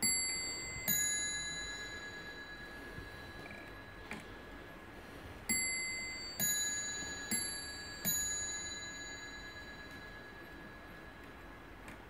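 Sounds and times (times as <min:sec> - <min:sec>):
clock striking on bells: 0:00.0 - 0:04.5, 0:05.5 - 0:11.8.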